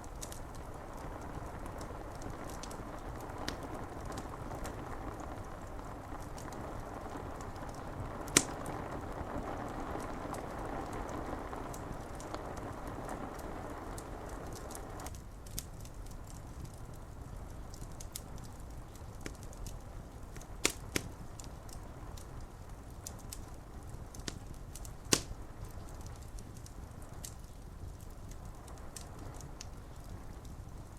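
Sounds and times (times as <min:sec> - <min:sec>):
rain on window glass: 0:00.0 - 0:30.9
wood fire crackling: 0:00.0 - 0:30.9.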